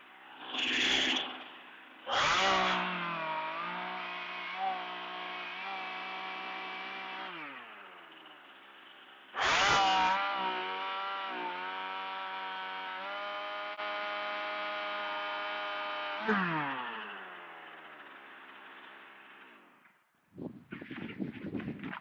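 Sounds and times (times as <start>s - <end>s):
chainsaw running: 0.0s - 20.0s
chainsaw chain spinning down: 0.2s - 19.8s.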